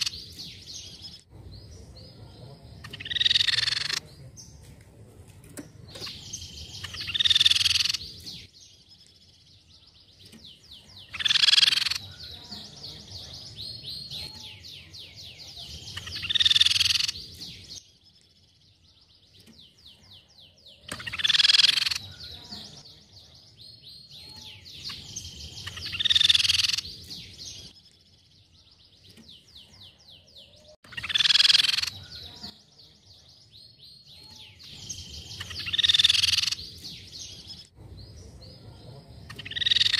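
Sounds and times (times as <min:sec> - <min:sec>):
bird calling with rattling trill: 0:02.8 - 0:04.0, 0:05.9 - 0:22.8, 0:23.6 - 0:32.6, 0:33.4 - 0:38.6, 0:39.2 - 0:39.9.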